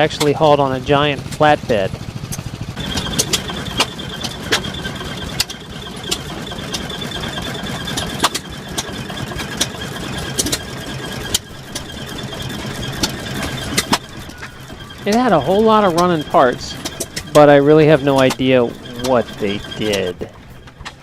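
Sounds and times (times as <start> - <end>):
machine droning with high whine: 0.0 - 21.0
sharp mechanical clicks: 2.3 - 21.0.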